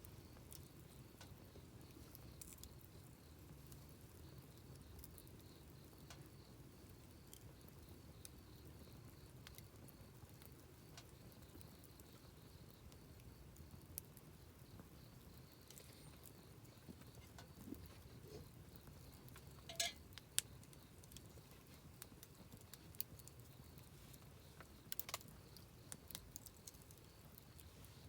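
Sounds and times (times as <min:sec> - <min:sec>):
campfire rumble: 0:00.0 - 0:28.0
fire crackles and pops: 0:00.0 - 0:28.0.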